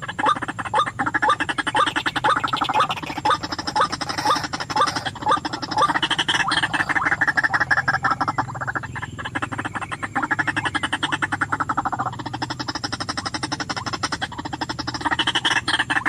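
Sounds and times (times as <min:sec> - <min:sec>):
bird croaking call: 0:00.0 - 0:16.0.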